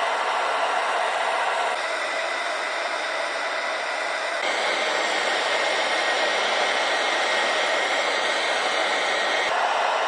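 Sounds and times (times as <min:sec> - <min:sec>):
electric blower fan rushing air: 0:00.0 - 0:10.0.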